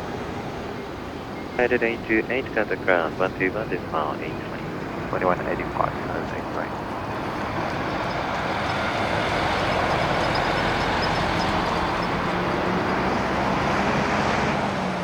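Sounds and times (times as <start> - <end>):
jet airliner engine rush: 0.0 - 15.0.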